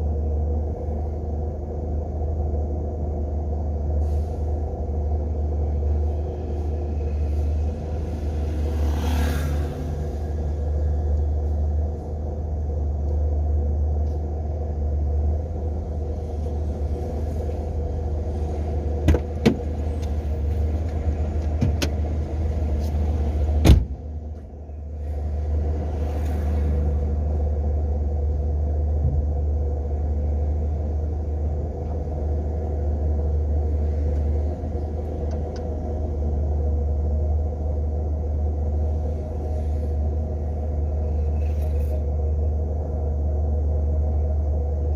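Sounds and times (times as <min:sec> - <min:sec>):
car interior road rumble: 0:00.0 - 0:44.9.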